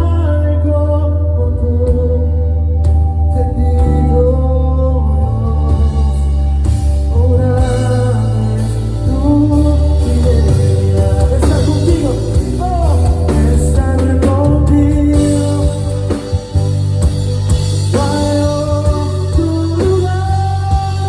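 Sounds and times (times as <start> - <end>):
person singing melody: 0.0 - 17.1, 17.8 - 21.0
bass guitar: 0.0 - 21.0
electric guitar: 0.0 - 21.0
drum kit: 1.9 - 21.0.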